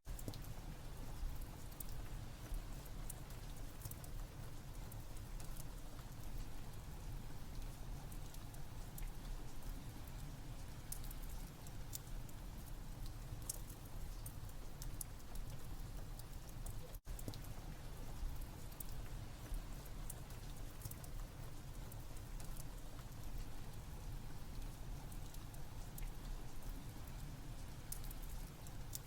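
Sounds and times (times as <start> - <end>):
steady rain: 0.1 - 29.0
wood fire crackling: 0.1 - 29.0.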